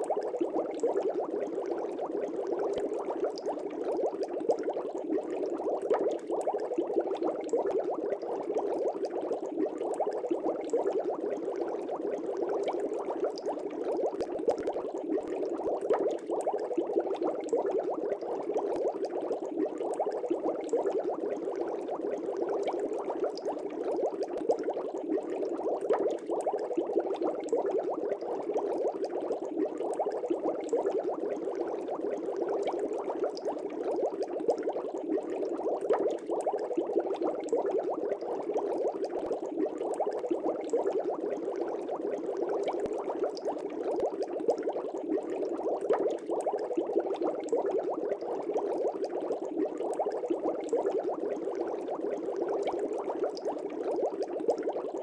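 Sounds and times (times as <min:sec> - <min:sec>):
aquarium air bubbling: 0:00.0 - 0:55.0.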